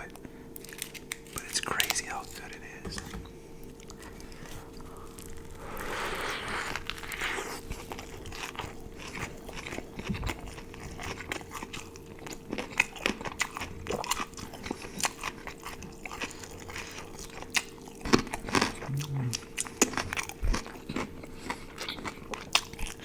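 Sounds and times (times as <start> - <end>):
biting and chewing burger: 3.7 - 23.0.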